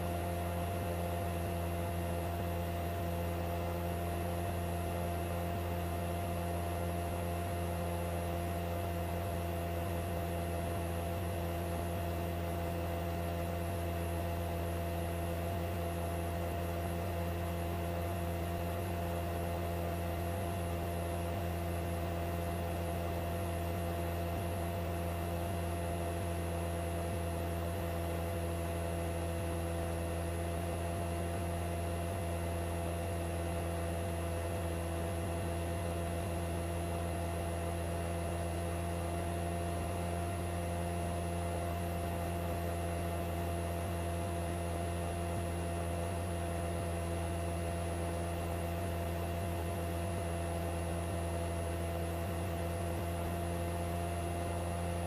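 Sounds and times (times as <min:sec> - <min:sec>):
helicopter cabin drone: 0:00.0 - 0:55.0.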